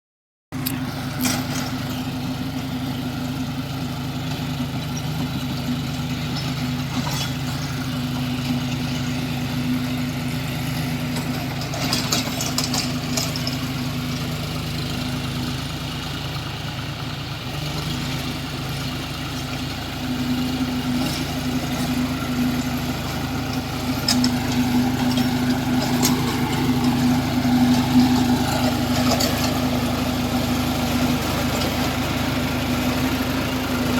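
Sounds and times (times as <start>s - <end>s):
tractor diesel engine running: 0.5s - 33.9s.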